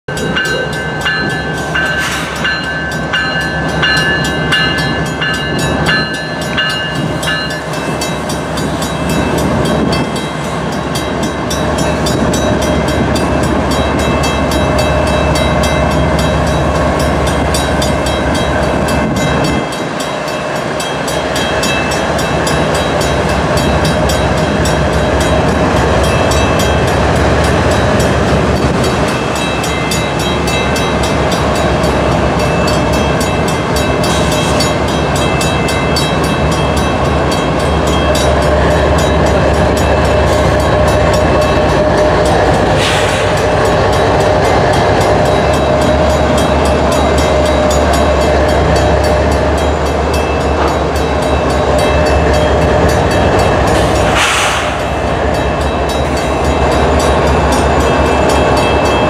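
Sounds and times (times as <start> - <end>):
diesel locomotive engines: 0.0 - 59.0
train wheel and rail noise: 0.0 - 59.0.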